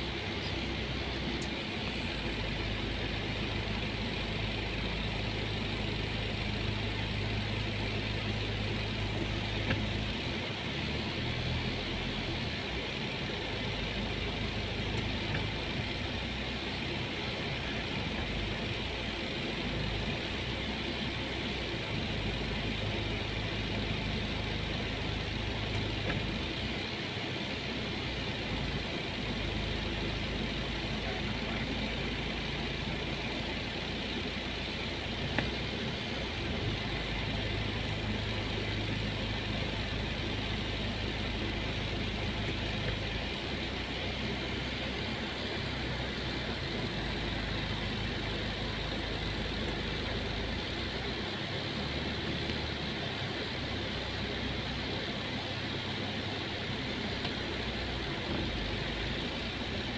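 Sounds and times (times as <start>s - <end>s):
car engine running at low speed: 0.0s - 59.9s
road and cabin noise: 0.0s - 59.9s.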